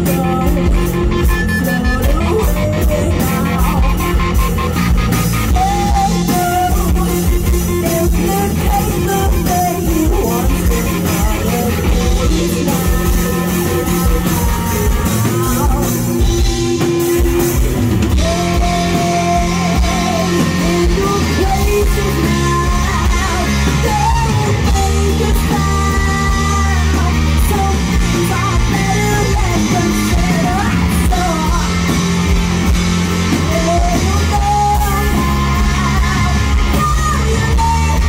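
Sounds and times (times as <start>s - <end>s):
woman singing: 0.0s - 4.2s, 5.4s - 32.0s, 33.3s - 38.0s
bass guitar: 0.0s - 38.0s
drum kit: 0.0s - 38.0s
electric guitars: 0.0s - 38.0s.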